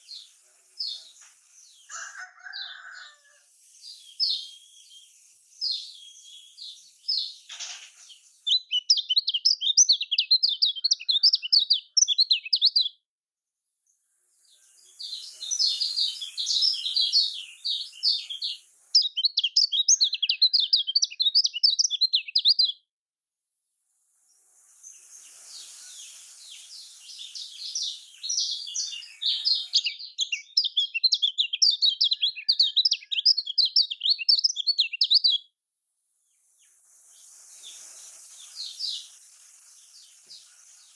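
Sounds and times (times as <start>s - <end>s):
bird chattering song: 0.0s - 2.8s, 3.6s - 13.0s, 14.4s - 22.8s, 24.6s - 35.4s, 36.4s - 40.9s.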